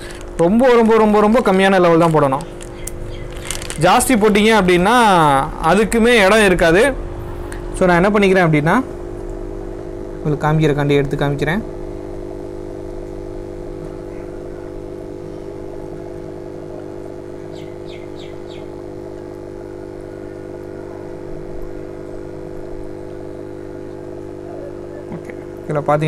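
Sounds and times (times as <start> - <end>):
air pump humming: 0.0 - 26.0.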